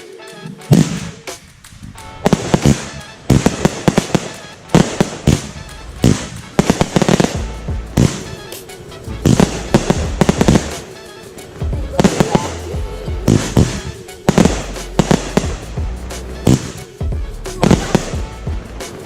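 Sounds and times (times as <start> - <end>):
background music: 0.0 - 19.0
fireworks bangs and crackling: 0.0 - 19.0.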